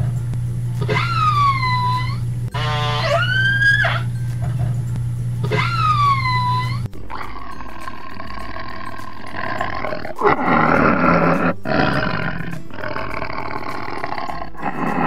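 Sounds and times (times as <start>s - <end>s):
tiger calling: 0.8s - 4.2s, 5.5s - 15.0s.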